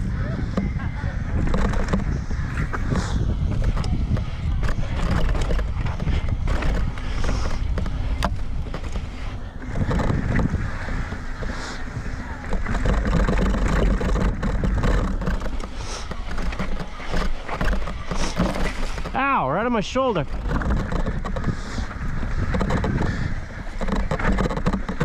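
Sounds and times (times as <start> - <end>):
bike knocking and rattling: 0.0 - 25.0
wind on microphone: 0.0 - 25.0.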